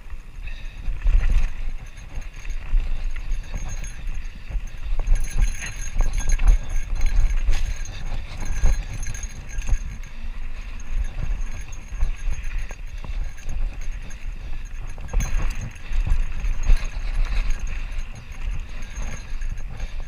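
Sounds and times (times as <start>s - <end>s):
bike rattling on dirt trail: 0.0s - 20.0s
wind rumbling on microphone: 0.0s - 20.0s.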